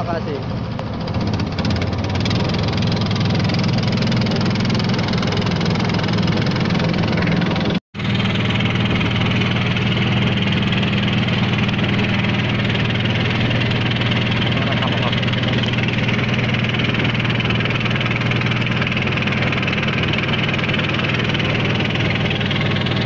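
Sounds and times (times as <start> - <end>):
boat motor droning: 0.0 - 23.0
water rushing along hull: 0.0 - 23.0.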